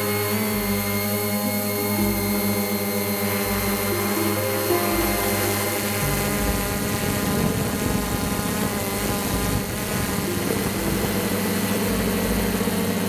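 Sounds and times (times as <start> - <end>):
drone propellers whining: 0.1 - 13.0.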